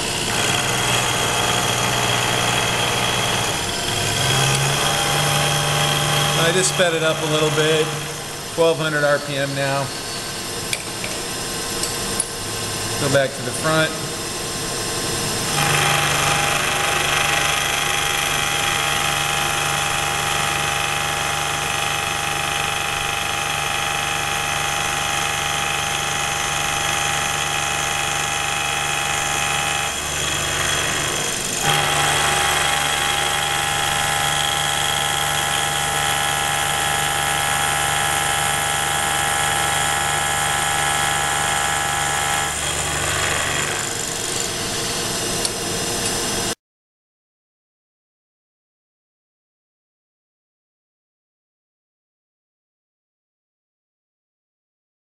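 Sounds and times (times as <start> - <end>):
milling cutter whining in metal: 0.0 - 46.6.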